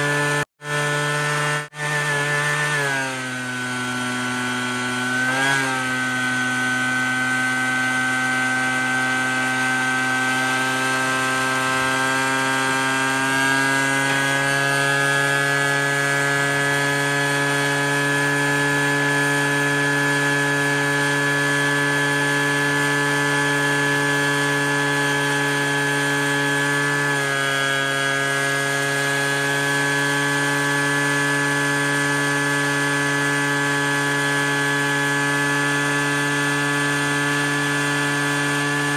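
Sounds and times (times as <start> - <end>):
leaf blower engine running: 0.0 - 38.9
shop vacuum motors: 0.0 - 38.9.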